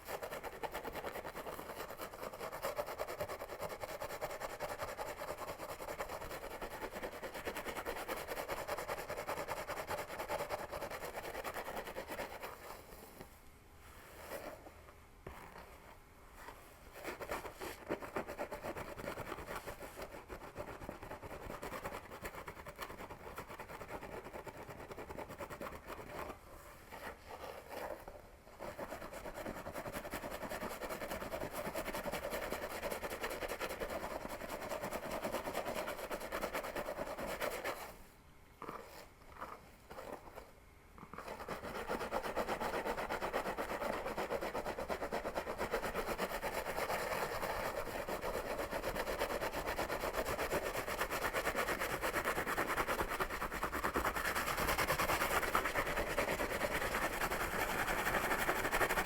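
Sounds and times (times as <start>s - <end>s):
fingers scratching scalp and hair: 0.0s - 13.1s, 16.5s - 38.0s, 41.1s - 59.0s.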